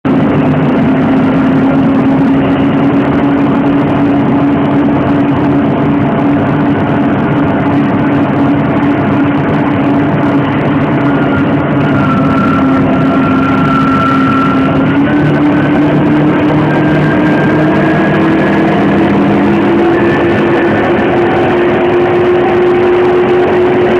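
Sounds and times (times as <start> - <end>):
vehicle engine droning: 0.0 - 23.9
faint high whine: 0.1 - 23.9.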